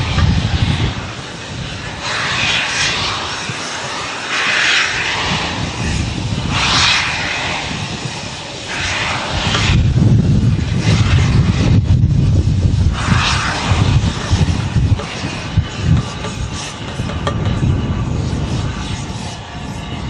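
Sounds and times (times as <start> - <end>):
hissing bursts of steam: 0.0 - 20.0
steam locomotive deep rumble: 0.0 - 20.0.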